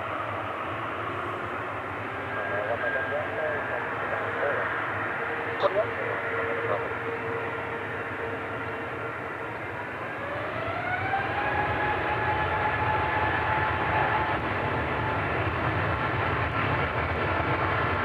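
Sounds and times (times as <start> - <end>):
jet engine rumble: 0.0 - 18.0
jet engine whine rising: 0.0 - 18.0.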